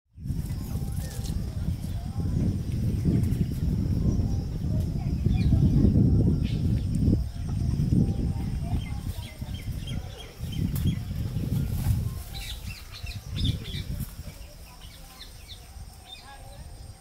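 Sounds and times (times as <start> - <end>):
low gusting rumble: 0.1 - 17.0
small birds chirping: 0.2 - 17.0.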